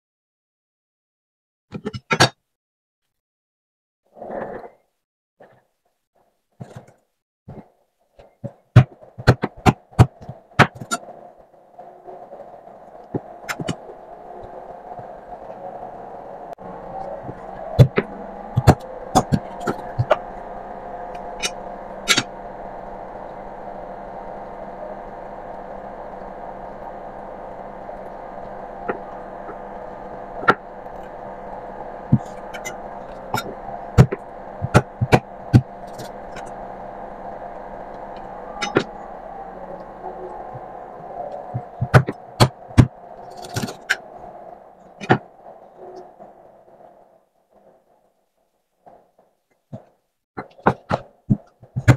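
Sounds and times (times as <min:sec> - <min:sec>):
steady low hum: 0:06.6 - 0:51.9.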